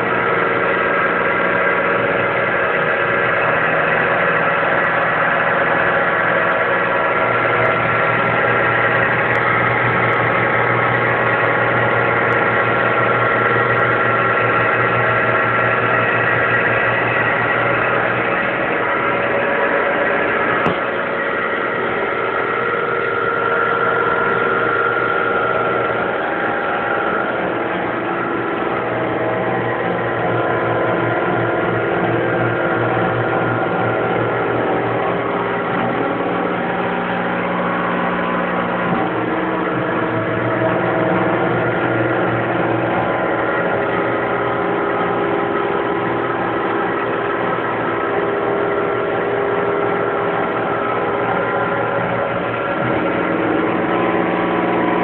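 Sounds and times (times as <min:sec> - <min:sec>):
stepper motors whining: 0:00.0 - 0:55.0.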